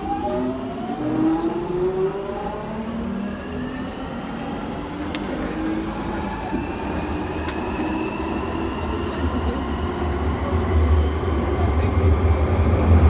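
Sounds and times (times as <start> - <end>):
train wheels rumbling on rail: 1.4 - 13.0.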